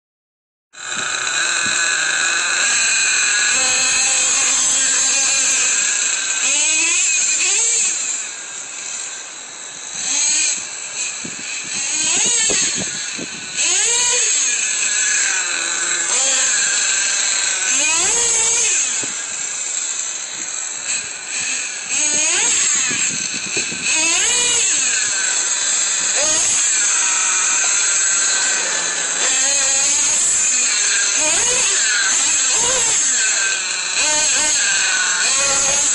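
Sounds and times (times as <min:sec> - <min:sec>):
small nitro engine revving: 0:00.8 - 0:08.3, 0:09.7 - 0:35.9
steady high whine: 0:00.8 - 0:35.9.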